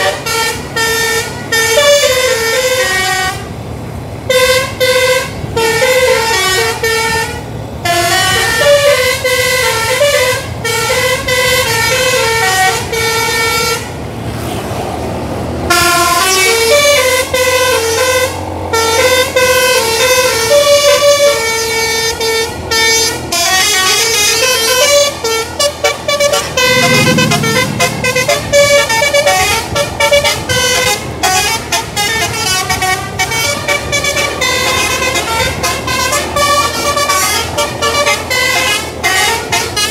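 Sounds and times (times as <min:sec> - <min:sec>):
bus musical horn playing notes: 0:00.0 - 0:14.1, 0:15.6 - 0:39.9.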